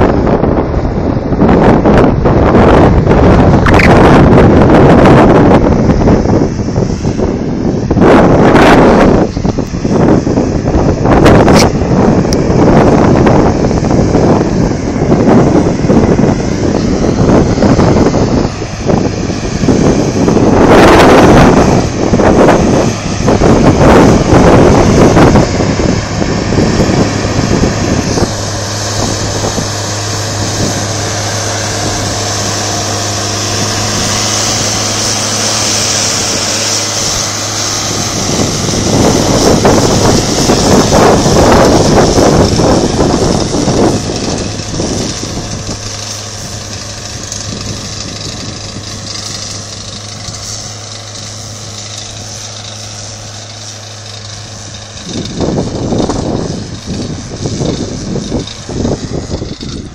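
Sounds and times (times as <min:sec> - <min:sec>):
rushing noise: 0:00.0 - 0:59.9
tractor engine humming: 0:00.0 - 0:59.9.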